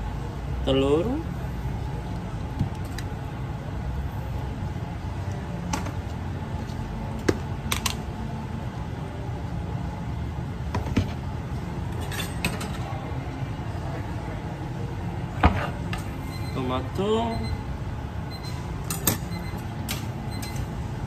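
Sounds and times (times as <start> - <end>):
kitchen background hum: 0.0 - 21.0.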